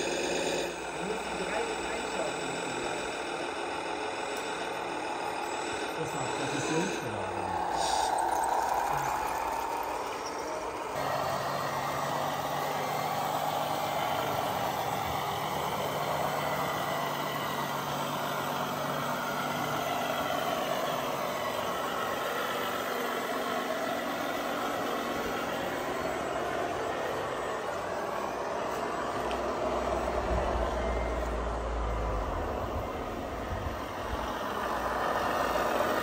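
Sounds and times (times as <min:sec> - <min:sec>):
model truck engine idling: 0:00.0 - 0:36.0
wavering electric whine: 0:00.0 - 0:36.0.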